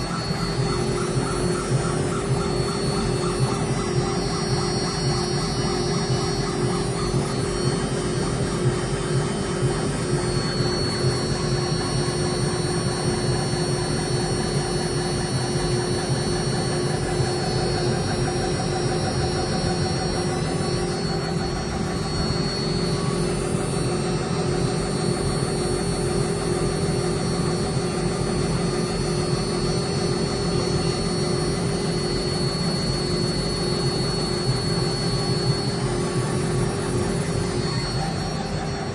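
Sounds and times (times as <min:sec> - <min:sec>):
engraving machine whining: 0:00.0 - 0:38.9.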